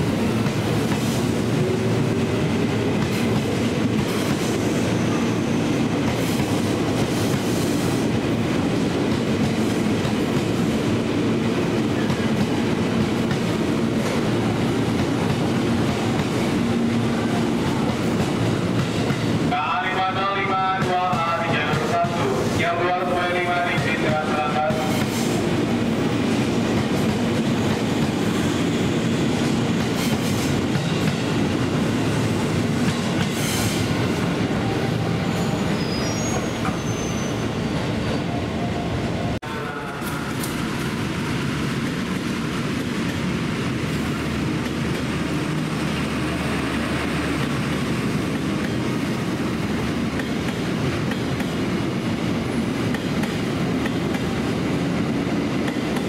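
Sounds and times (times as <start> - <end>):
train wheel and rail noise: 0.0 - 56.0.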